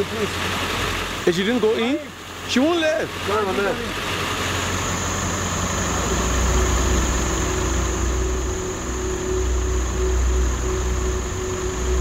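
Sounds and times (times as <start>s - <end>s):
engine idling: 0.0s - 12.0s
high-pitched whine: 0.0s - 12.0s.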